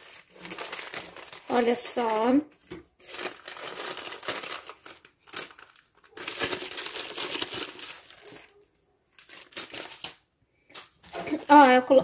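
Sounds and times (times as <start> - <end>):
plastic mailer bag crinkling: 0.0 - 8.5, 9.1 - 12.0.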